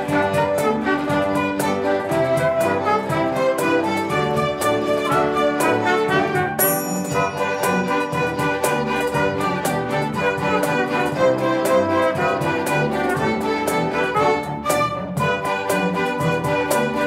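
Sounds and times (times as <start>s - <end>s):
string orchestra with piano: 0.0s - 17.0s.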